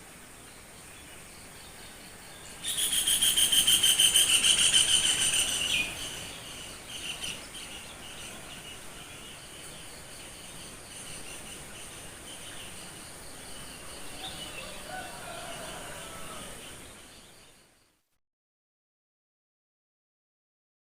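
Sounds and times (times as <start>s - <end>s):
insect calls: 0.3s - 18.0s.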